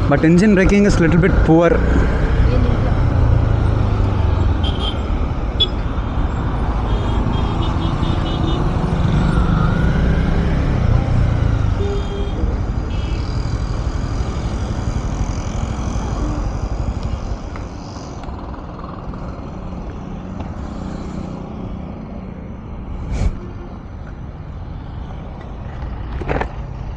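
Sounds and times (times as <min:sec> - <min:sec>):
motorcycle engine roar: 0:00.0 - 0:23.2.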